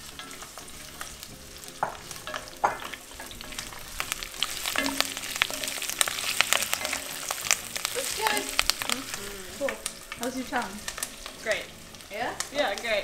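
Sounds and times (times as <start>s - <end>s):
onions sizzling in hot oil: 0.0s - 13.0s
wooden spoon stirring: 0.0s - 13.0s.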